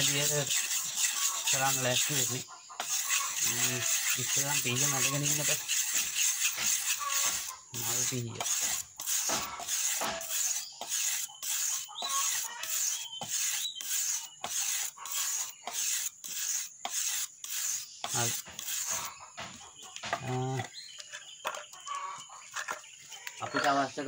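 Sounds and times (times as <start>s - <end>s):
knife scraping on whetstone: 0.0s - 22.8s.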